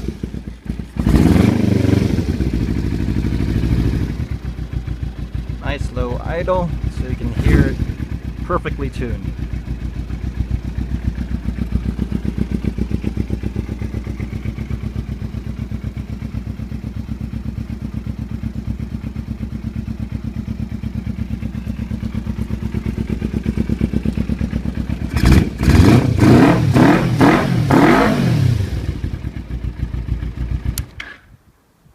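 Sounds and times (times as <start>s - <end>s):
motorcycle engine idling and revving: 0.0s - 31.3s.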